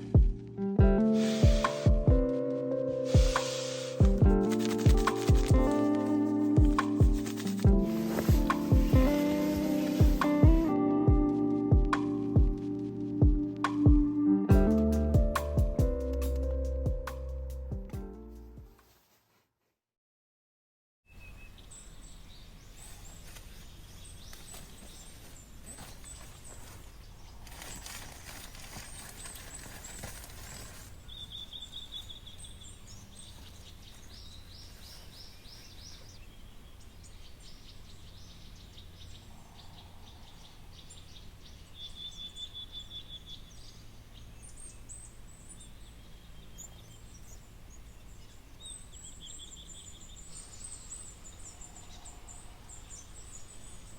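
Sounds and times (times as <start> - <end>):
birds chirping and trilling: 0.0 - 17.1, 21.1 - 53.9.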